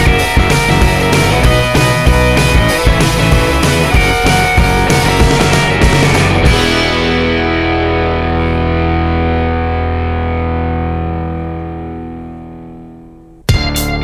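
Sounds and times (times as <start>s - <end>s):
distorted electric guitar chord: 0.0s - 14.0s
rock music: 0.0s - 14.0s.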